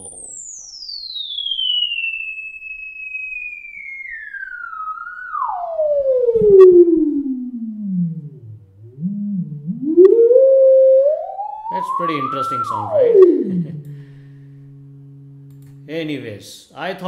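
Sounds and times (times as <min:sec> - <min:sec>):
sine tone sweeping downward: 0:00.0 - 0:16.0.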